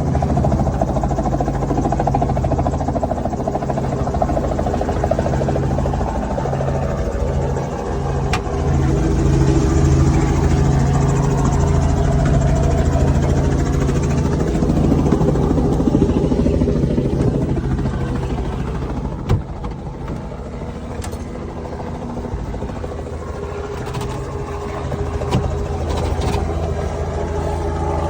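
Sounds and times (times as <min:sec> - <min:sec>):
helicopter rotors beating: 0:00.0 - 0:28.0.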